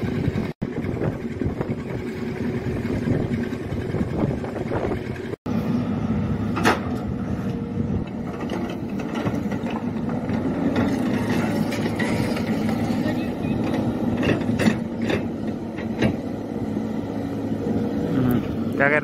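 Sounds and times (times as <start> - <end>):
diesel excavator engine running: 0.0 - 19.0.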